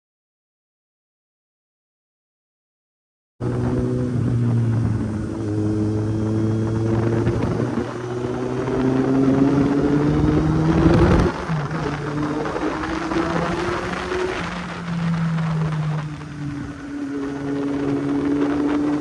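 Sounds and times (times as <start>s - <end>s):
motorcycle engine running: 3.4s - 19.0s
steady rush of noise: 3.4s - 19.0s.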